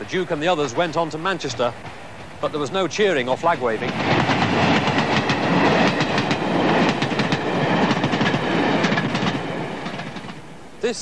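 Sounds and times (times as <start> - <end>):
wheels clattering over rail joints: 0.0 - 10.5
train passing with rumble: 0.0 - 11.0.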